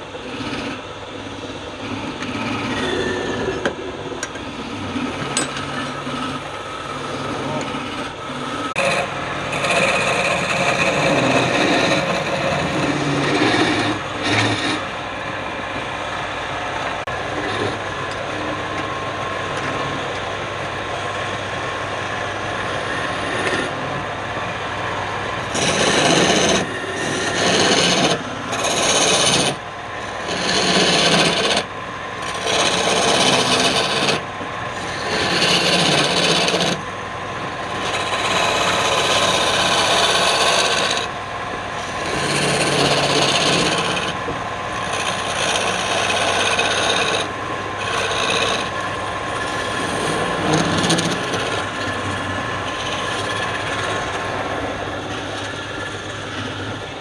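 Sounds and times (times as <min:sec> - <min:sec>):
tool scraping spinning wood: 0:00.0 - 0:57.0
wood lathe running: 0:00.0 - 0:57.0.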